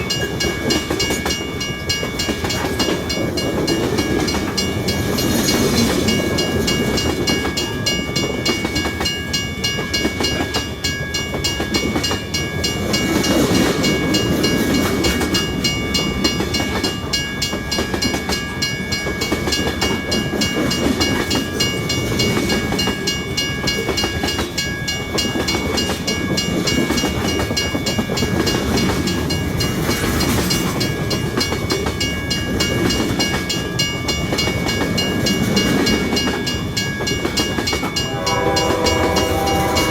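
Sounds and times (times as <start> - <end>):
freight train wagons rumbling: 0.0 - 39.9.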